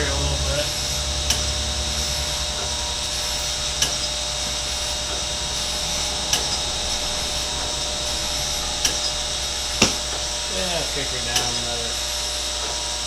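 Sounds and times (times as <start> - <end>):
grinder spindle hum: 0.0 - 13.0
grinding wheel hiss: 0.0 - 13.0.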